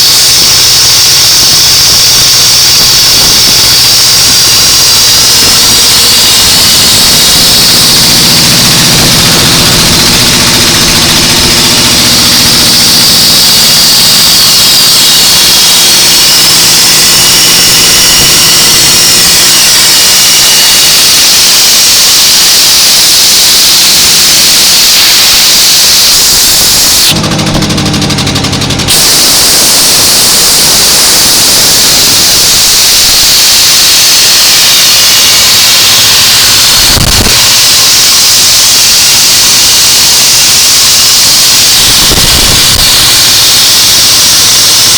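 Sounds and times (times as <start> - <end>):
motor hum: 0.0 - 20.2, 23.6 - 44.9
air compressor hissing: 0.0 - 44.9.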